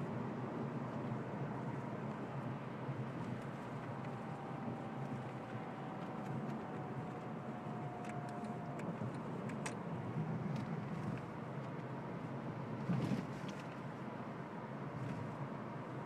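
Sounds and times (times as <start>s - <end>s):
car cabin road and engine noise: 0.0s - 16.0s.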